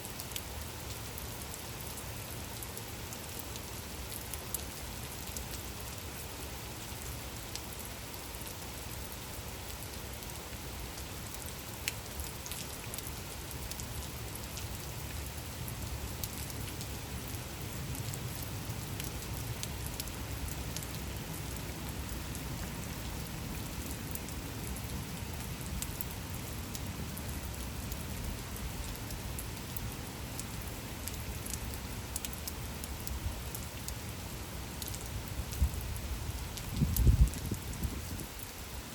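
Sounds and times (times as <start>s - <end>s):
gentle rain hiss: 0.0s - 38.9s
rain drops ticking: 0.0s - 38.9s.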